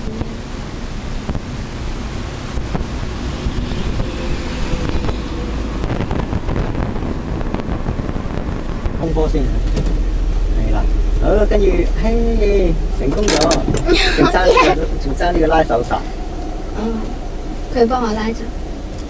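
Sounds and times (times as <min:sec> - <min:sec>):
low engine rumble: 0:00.0 - 0:19.0
road and wind noise: 0:00.0 - 0:19.0.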